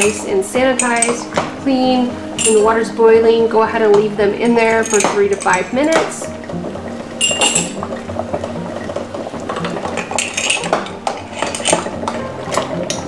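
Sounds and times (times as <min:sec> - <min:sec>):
metal tool clinking against pot: 0:00.0 - 0:01.5, 0:02.4 - 0:03.0, 0:03.9 - 0:13.0
water boiling in a pot: 0:00.0 - 0:13.0.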